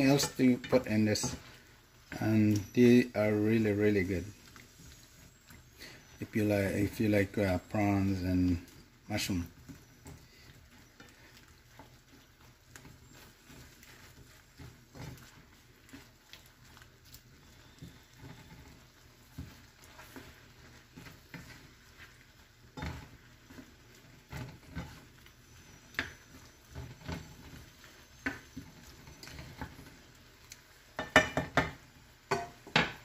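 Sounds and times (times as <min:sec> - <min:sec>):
sauce sizzling: 0:00.0 - 0:33.0
wooden spatula scraping a pan: 0:00.0 - 0:33.0.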